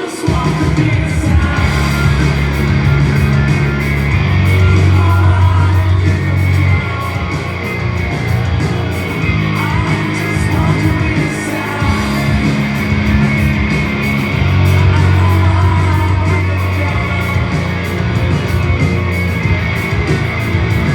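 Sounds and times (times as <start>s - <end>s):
heavy rock band playing: 0.0s - 20.9s.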